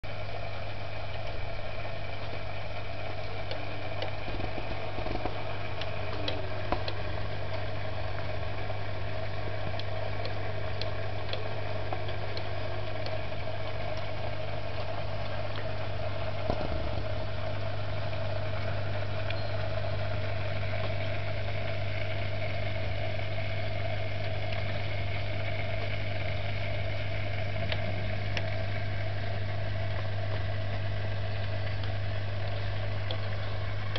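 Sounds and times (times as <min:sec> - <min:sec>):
aquarium pump humming: 0:00.0 - 0:33.9.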